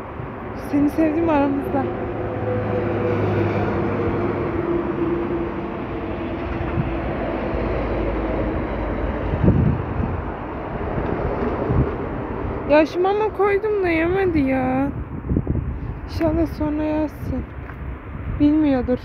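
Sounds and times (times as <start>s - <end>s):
traffic rumble: 0.0s - 19.0s
vehicle engine hum: 0.0s - 19.0s.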